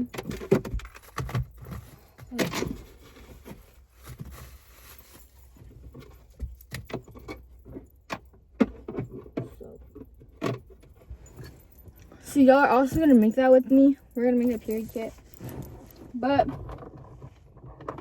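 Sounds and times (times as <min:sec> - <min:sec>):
small objects handled in a car: 0:00.0 - 0:18.0.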